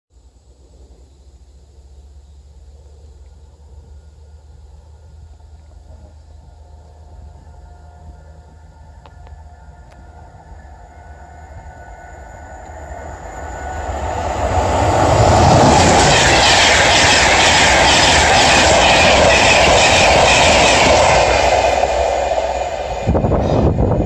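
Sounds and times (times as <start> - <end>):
train passing: 0.2 - 24.0.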